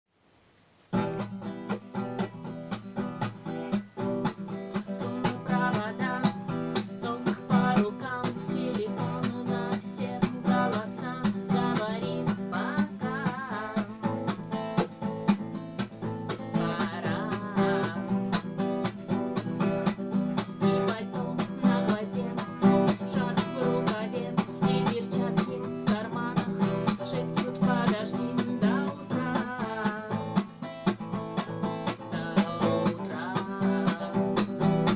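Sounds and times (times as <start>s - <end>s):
plucked and strummed guitar: 0.9s - 34.9s.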